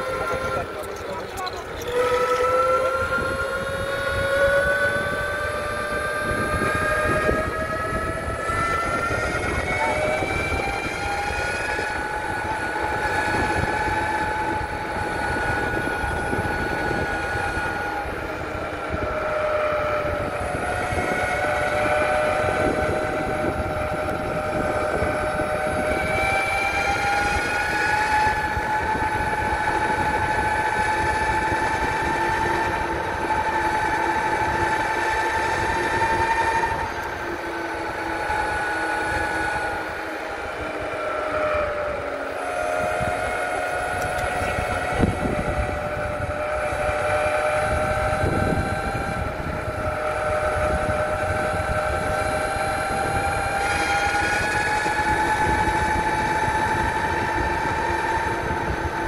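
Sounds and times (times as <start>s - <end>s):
electric motors whining: 0.0s - 59.0s
rough fluttering rumble: 0.0s - 59.0s.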